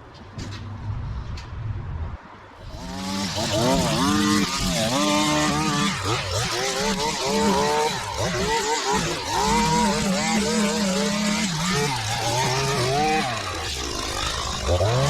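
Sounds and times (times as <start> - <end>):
small petrol engine revving: 2.6 - 15.0.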